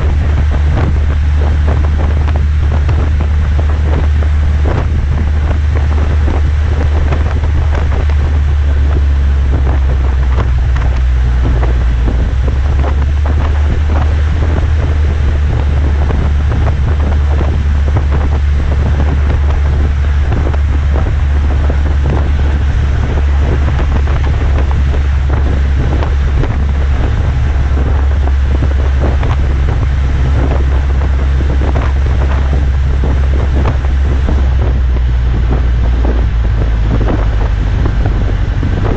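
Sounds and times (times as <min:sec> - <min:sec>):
car engine running: 0:00.0 - 0:38.9
wind buffeting microphone: 0:00.0 - 0:38.9.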